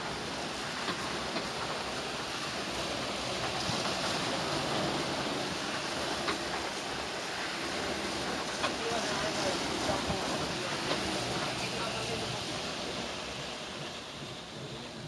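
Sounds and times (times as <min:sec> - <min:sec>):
washing machine churning water: 0:00.0 - 0:15.0.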